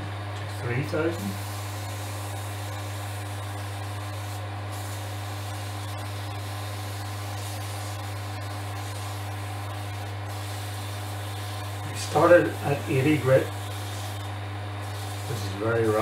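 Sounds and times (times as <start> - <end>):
lathe motor humming: 1.0 - 16.0
sandpaper hissing on wood: 1.2 - 16.0.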